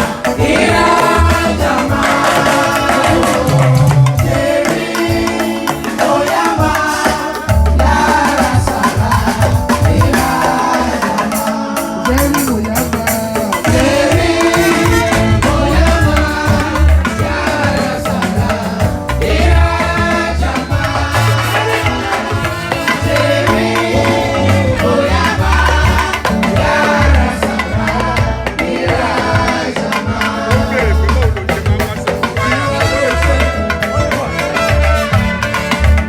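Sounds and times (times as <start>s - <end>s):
drums and percussion beat: 0.0s - 36.0s
voices singing a hymn: 0.0s - 36.0s.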